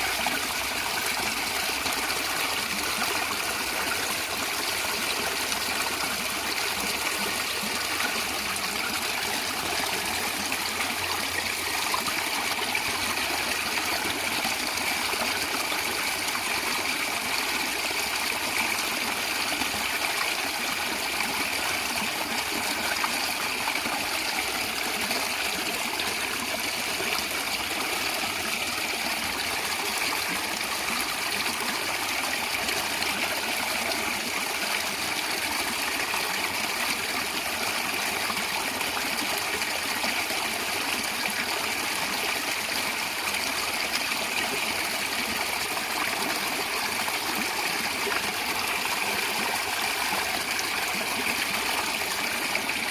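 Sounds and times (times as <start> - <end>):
stream gurgling over stones: 0.0 - 52.9.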